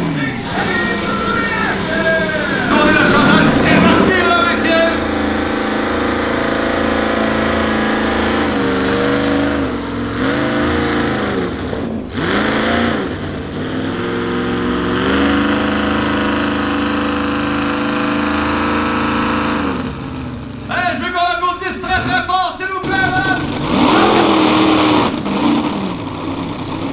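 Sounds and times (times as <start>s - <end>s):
tractor engine revving high: 0.0s - 26.9s.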